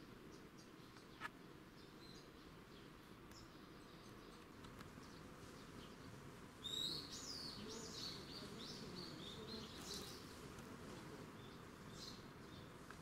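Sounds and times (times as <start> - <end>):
faint outdoor hum: 0.0 - 13.0.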